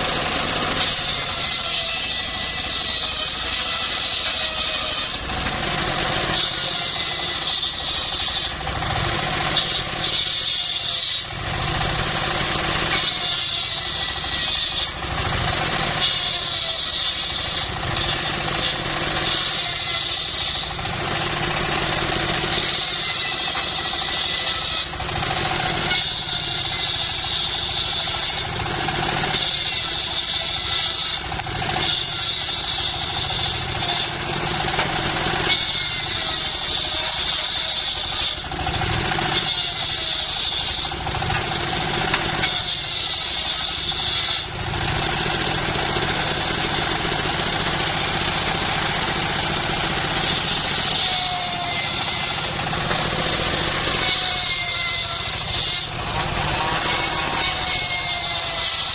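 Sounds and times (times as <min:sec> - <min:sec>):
saw blade whining through wood: 0:00.0 - 0:58.9
sawmill engine running: 0:00.0 - 0:58.9.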